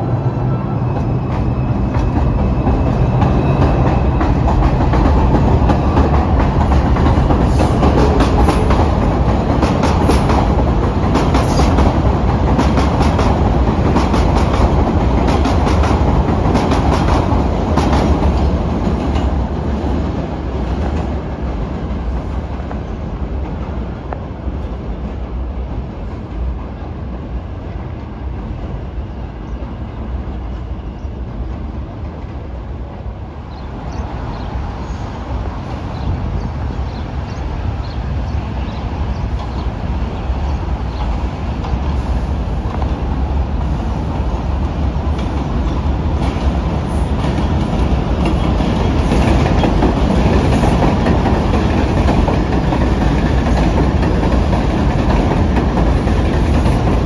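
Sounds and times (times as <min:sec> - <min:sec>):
subway train rumbling: 0:00.0 - 0:57.0.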